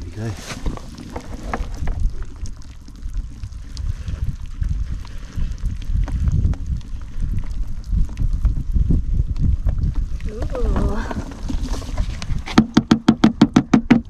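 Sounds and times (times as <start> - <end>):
water trickling and dripping: 0.0 - 12.5
wind buffeting microphone: 0.0 - 14.0.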